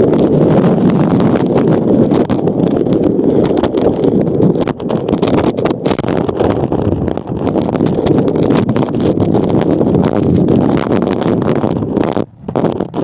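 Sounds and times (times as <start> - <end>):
chassis and tyre rattle: 0.0 - 13.0
crackling jolts: 0.0 - 13.0
wind rumble on microphone: 0.0 - 13.0.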